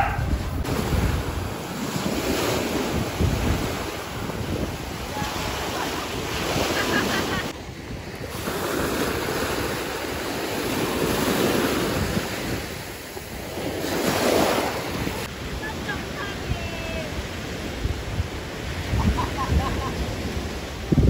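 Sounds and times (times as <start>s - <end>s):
small waves breaking on sand: 0.0s - 21.0s
wind buffeting microphone: 0.0s - 21.0s.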